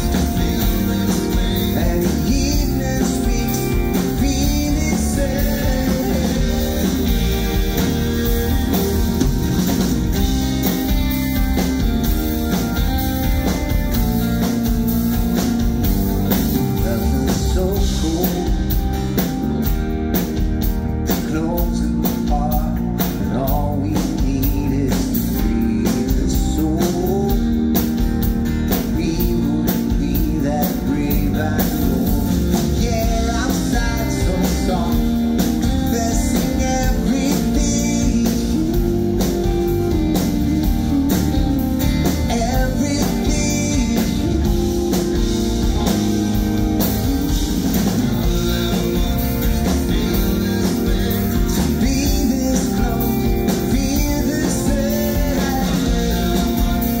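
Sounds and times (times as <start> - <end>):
man singing: 0.0 - 8.5, 16.3 - 19.0, 21.1 - 27.8, 28.6 - 57.0
rock band playing: 0.0 - 57.0.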